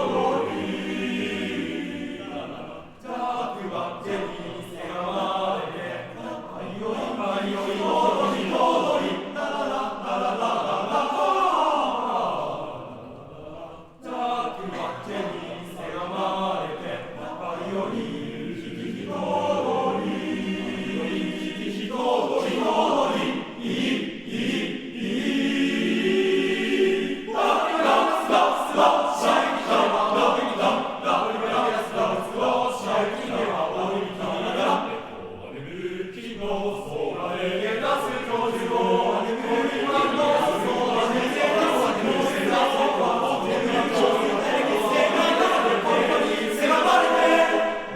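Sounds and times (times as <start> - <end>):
men's choir singing: 0.0 - 47.9.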